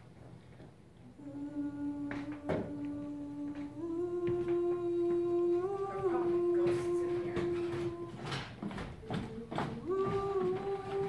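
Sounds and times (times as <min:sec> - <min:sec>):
person humming a slow tune: 0:01.0 - 0:11.0.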